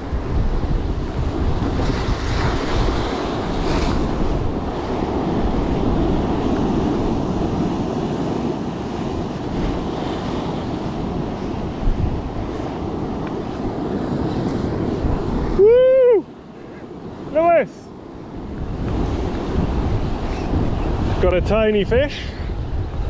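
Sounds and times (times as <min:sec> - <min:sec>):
surf breaking on rocky shore: 0:00.0 - 0:23.0
wind buffeting microphone: 0:00.0 - 0:23.0.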